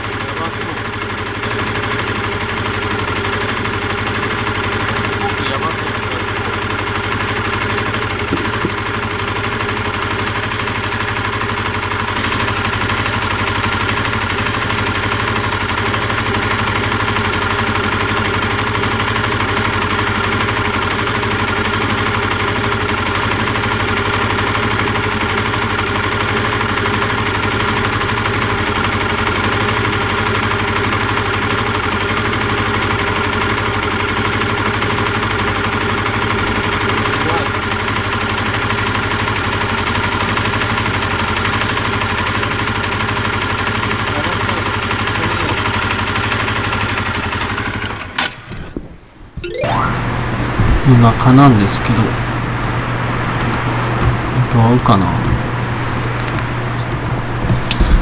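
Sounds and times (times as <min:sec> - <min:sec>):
motorcycle engine idling: 0:00.0 - 0:48.6, 0:50.9 - 0:58.0.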